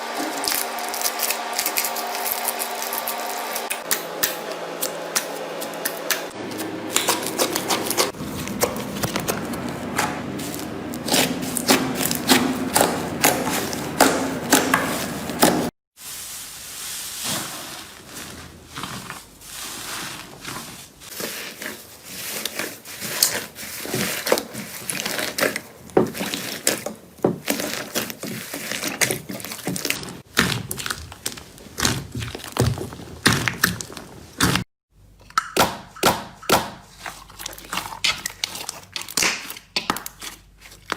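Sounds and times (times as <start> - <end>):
slime squelching by hand: 0.0 - 34.6, 36.4 - 40.9.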